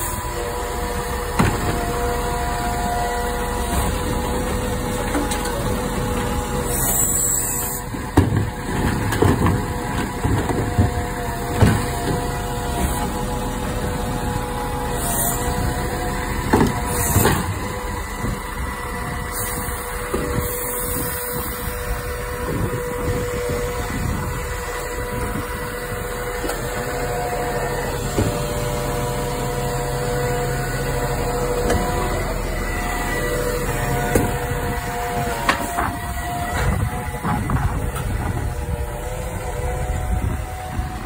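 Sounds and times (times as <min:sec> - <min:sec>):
garbage truck engine and machinery whine: 0:00.0 - 0:41.0.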